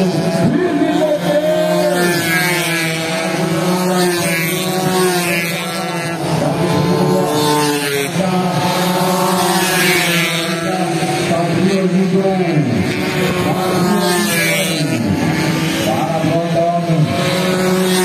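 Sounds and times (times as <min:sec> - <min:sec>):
motorcycle passing close: 0:00.0 - 0:18.0
racing motorcycles revving: 0:00.0 - 0:18.0.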